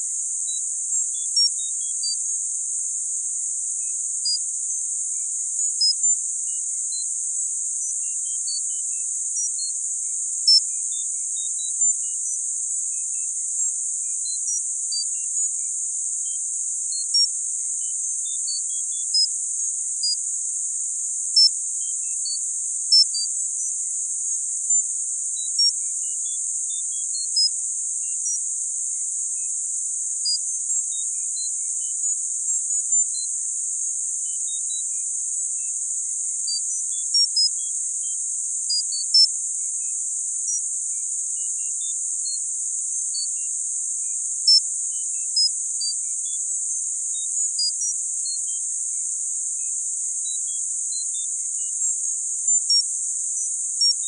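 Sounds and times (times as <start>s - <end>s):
steady high-pitched hiss: 0.0s - 54.0s.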